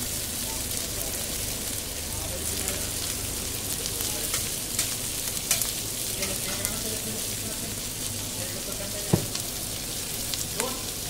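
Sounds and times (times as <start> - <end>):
onion and tomato sizzling on griddle: 0.0 - 11.0.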